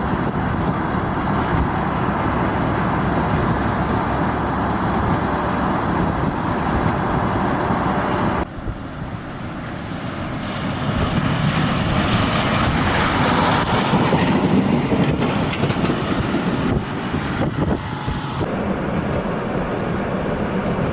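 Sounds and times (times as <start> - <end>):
high wind rushing: 0.0 - 20.9
road traffic: 0.0 - 20.9.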